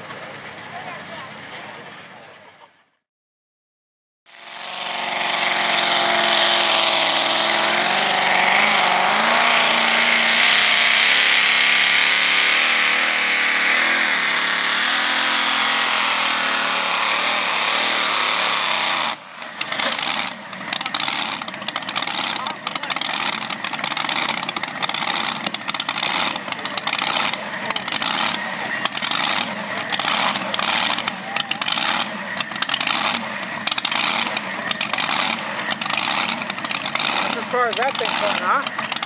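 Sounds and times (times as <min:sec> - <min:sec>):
truck engine at full throttle: 0:00.0 - 0:02.9, 0:04.3 - 0:39.0.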